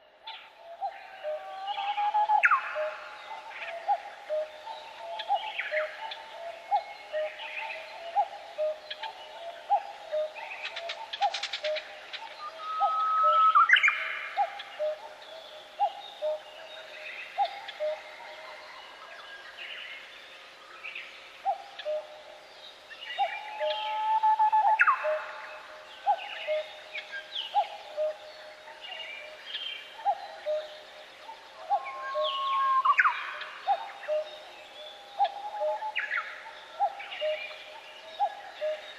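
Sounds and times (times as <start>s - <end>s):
birds singing and chirping: 0.0s - 38.9s.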